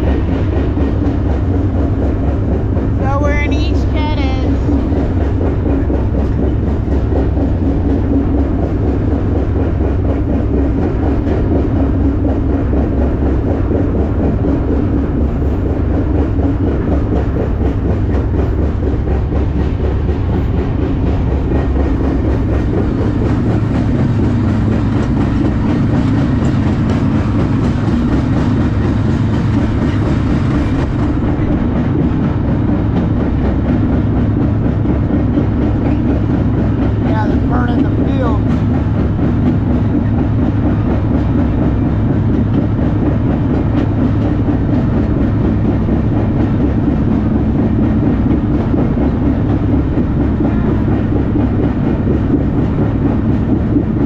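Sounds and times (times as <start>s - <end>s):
freight car rumbling and rattling: 0.0s - 54.0s.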